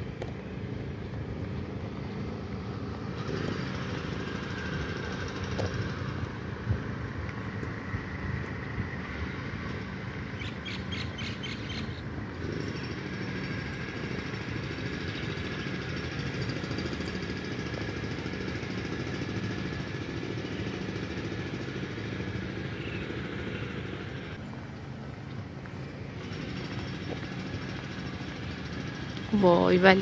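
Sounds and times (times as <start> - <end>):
outdoor background rumble: 0.0 - 30.0.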